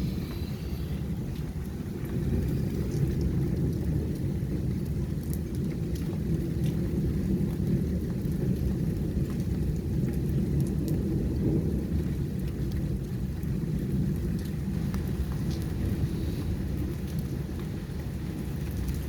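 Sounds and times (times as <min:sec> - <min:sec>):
heavy rain: 0:00.0 - 0:19.0
raindrop clicks: 0:00.0 - 0:19.0.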